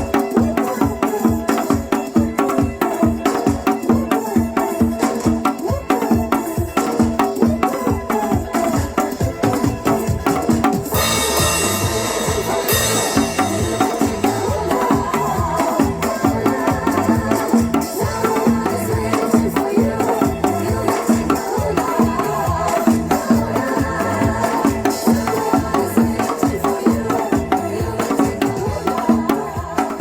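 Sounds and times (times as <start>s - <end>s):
upbeat disco music: 0.0s - 30.0s.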